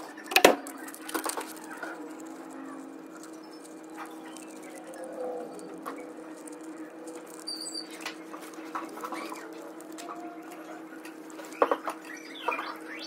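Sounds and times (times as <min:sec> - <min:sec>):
steady low hum: 0:00.0 - 0:13.0
wire rustling and scraping: 0:00.0 - 0:13.0.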